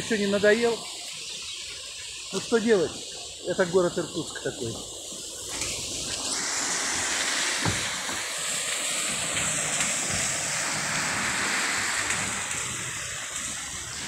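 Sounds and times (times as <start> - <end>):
tyres hissing on wet road: 0.0 - 14.0.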